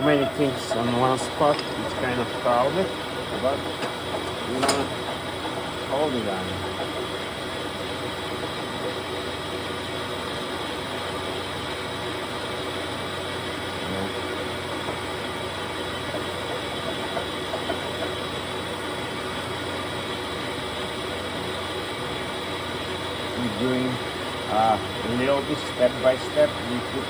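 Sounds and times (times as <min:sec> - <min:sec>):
lathe machine hum: 0:00.0 - 0:27.0.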